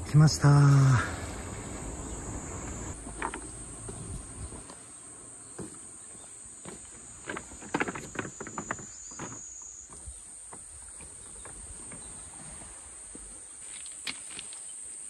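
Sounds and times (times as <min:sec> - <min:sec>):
cicadas buzzing: 0:00.0 - 0:15.0
footsteps: 0:02.6 - 0:14.7.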